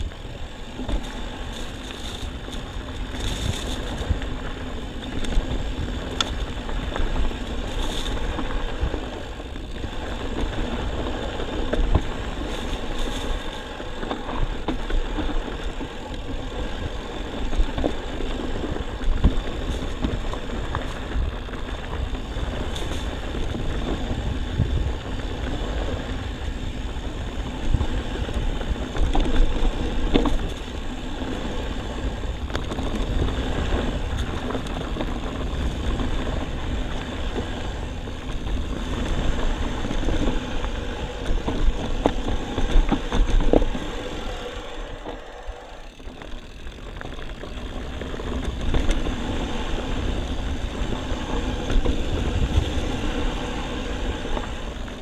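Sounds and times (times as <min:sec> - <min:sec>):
bike rattles and clicks: 0:00.0 - 0:55.0
wind on microphone: 0:00.0 - 0:55.0.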